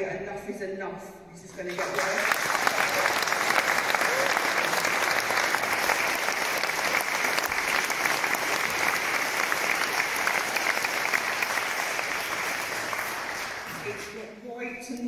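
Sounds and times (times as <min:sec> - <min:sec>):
audience applauding: 0:01.6 - 0:14.2.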